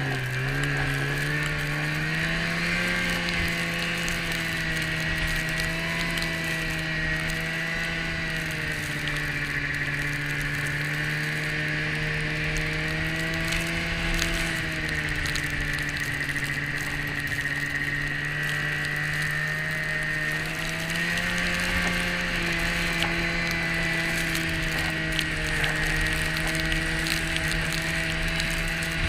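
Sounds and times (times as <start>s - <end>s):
snowmobile engine running: 0.0s - 29.0s
thin whine: 0.0s - 29.0s.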